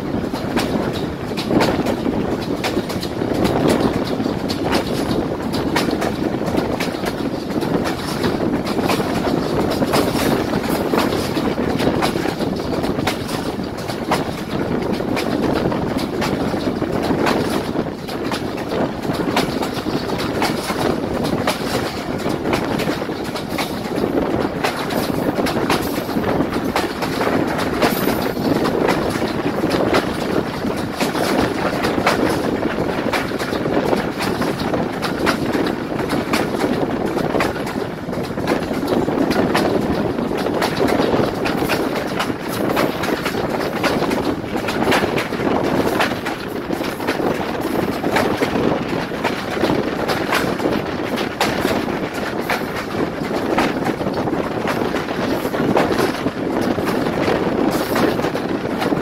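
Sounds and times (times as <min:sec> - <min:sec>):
train wheels rumbling on track: 0:00.0 - 0:59.0
wheels clicking and clattering: 0:00.0 - 0:59.0.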